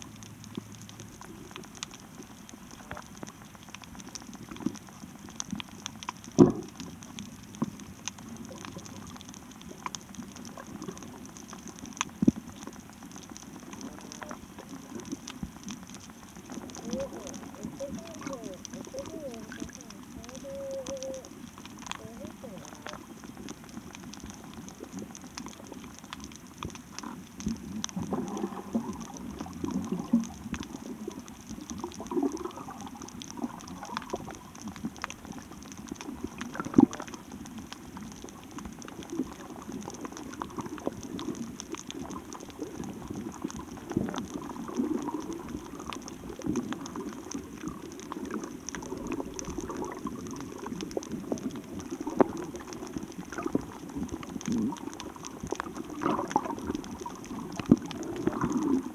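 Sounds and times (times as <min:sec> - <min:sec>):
water bubbling and gurgling: 0:00.0 - 0:58.9.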